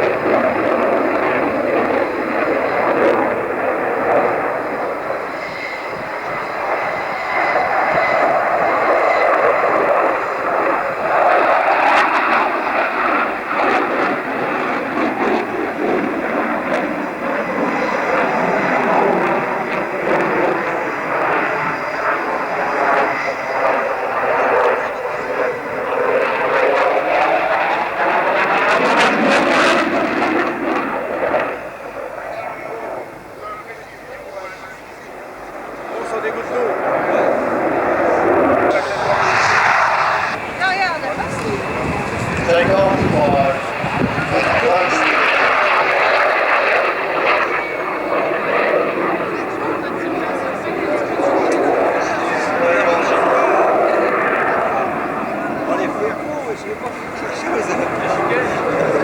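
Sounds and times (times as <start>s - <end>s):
jet engine rushing with whine: 0.0s - 59.0s.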